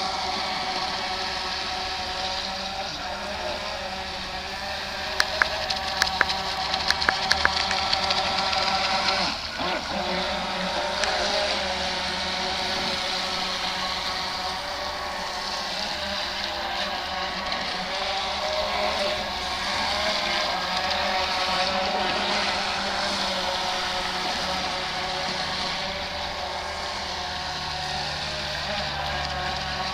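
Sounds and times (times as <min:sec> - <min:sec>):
toy boat motor whine: 0:00.0 - 0:29.9.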